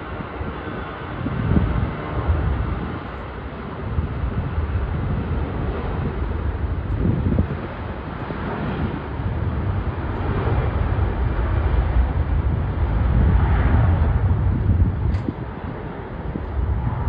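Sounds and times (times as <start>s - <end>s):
jet engine roar: 0.0s - 17.0s
wind buffeting microphone: 0.0s - 17.0s.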